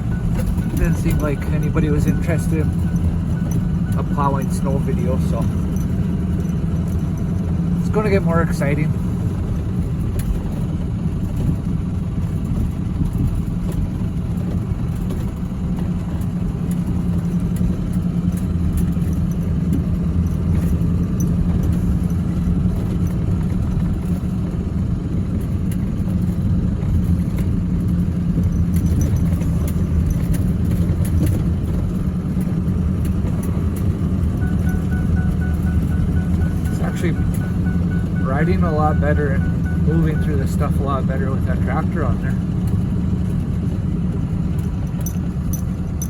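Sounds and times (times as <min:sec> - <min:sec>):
rattles and knocks: 0:00.0 - 0:08.0, 0:09.0 - 0:41.0, 0:41.7 - 0:46.0
pickup truck engine and road drone: 0:00.0 - 0:46.0.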